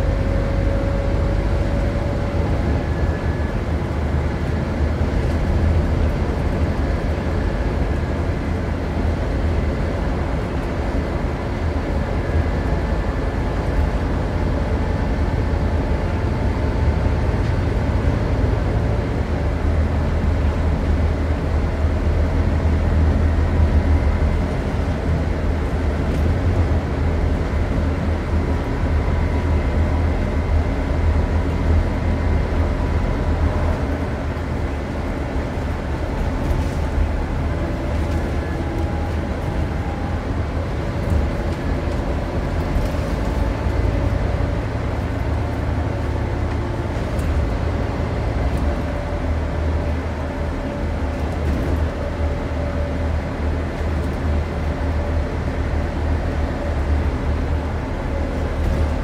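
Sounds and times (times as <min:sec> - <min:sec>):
diesel bus engine drone: 0:00.0 - 0:59.0.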